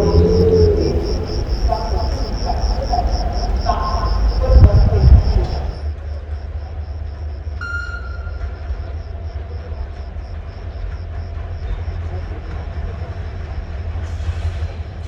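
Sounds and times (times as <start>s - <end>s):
crickets chirping: 0.0s - 15.0s
train rumbling: 0.0s - 15.0s.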